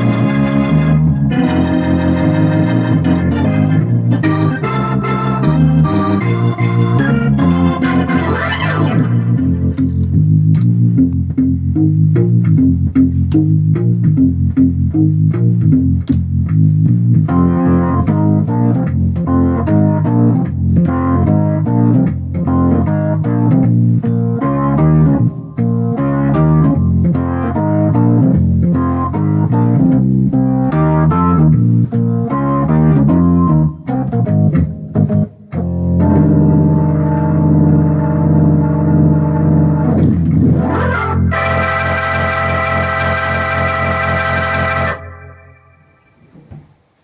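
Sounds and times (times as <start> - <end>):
organ playing blues chords: 0.0 - 46.3.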